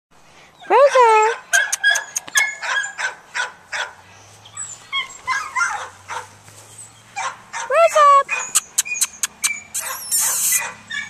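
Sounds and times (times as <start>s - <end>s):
small dog yelping and barking: 0.6s - 3.9s, 4.5s - 6.3s, 7.2s - 11.0s.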